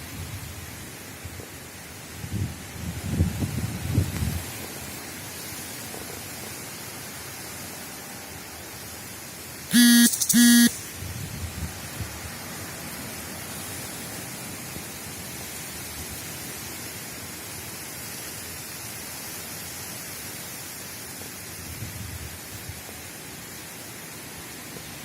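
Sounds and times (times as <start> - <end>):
heavy rain shower: 0.0 - 9.7, 10.9 - 25.0.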